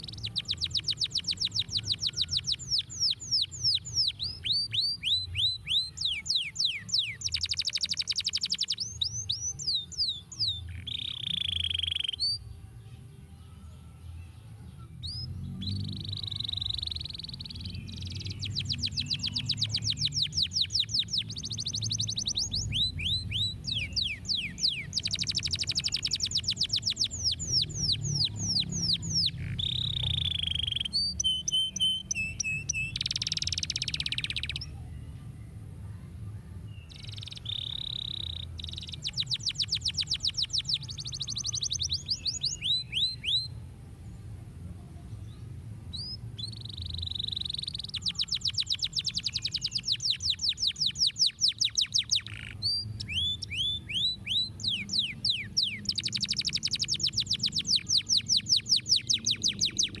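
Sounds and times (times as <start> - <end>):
canary singing trills: 0.0 - 12.5, 13.5 - 35.0, 36.0 - 43.7, 45.3 - 60.0.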